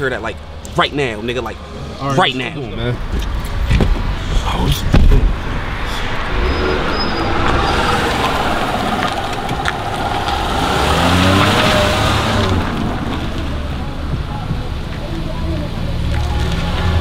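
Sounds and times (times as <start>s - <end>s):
car engine accelerating: 0.3s - 17.0s.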